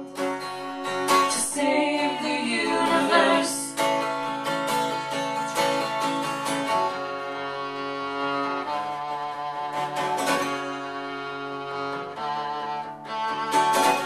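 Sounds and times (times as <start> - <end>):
acoustic guitar strumming: 0.0 - 14.0
violin sustained notes: 0.0 - 14.0.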